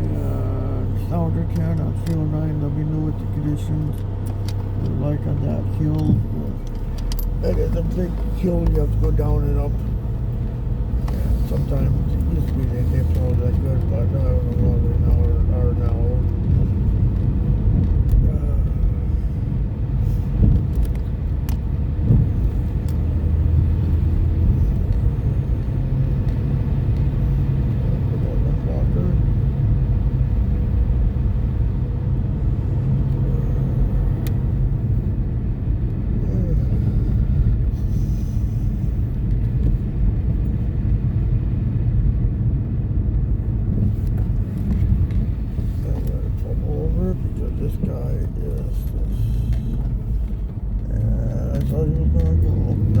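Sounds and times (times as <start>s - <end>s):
car engine and road noise: 0.0s - 53.0s.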